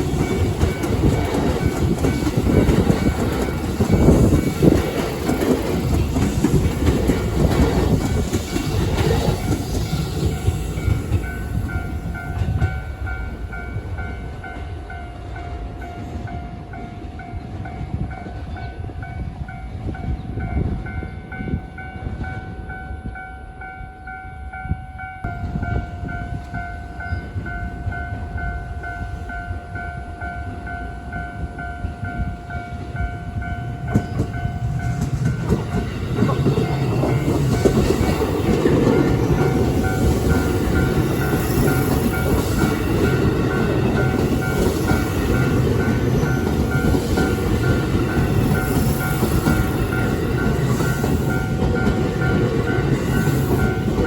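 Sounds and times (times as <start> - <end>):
train wheels rumbling and clattering: 0.0 - 23.0, 25.2 - 54.0
level crossing warning bell: 0.0 - 54.0.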